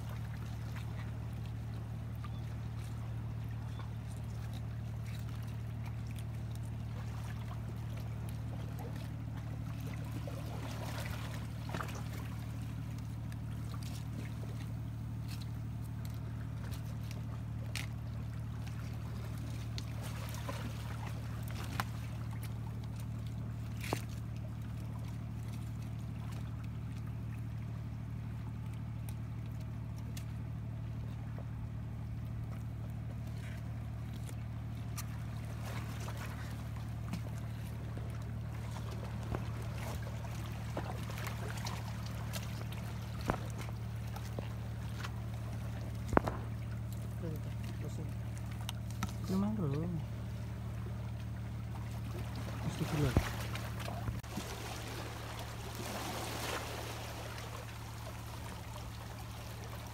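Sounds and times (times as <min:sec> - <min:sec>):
low engine hum: 0:00.0 - 0:59.9.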